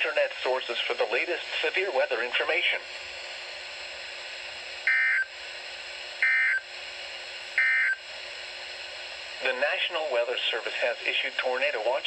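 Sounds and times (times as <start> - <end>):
radio reception hiss: 0.0 - 12.0.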